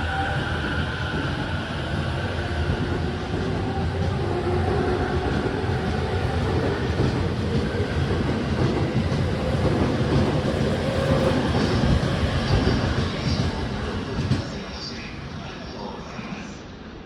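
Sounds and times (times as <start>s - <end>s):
train wheels rumbling on rail: 0.0s - 15.6s.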